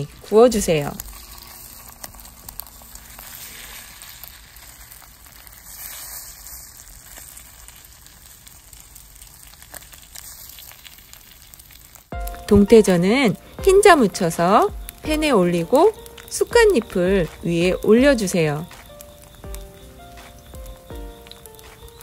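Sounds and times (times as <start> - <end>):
faint oil crackles: 0.0 - 22.0
pancakes sizzling in oil: 0.0 - 22.0.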